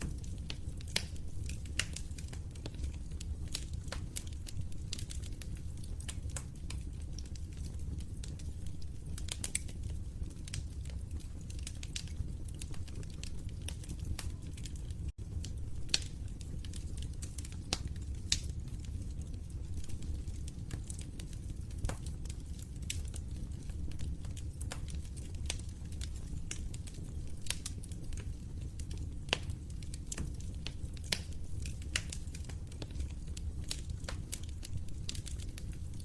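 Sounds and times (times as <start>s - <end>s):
low rumble of burning: 0.0s - 36.0s
wood fire crackling: 0.0s - 36.0s.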